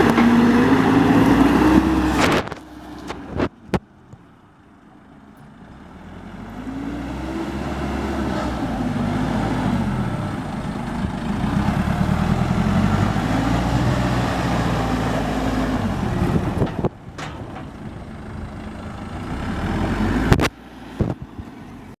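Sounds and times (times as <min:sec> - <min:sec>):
diesel engine revving: 0:00.0 - 0:03.8, 0:05.6 - 0:22.0.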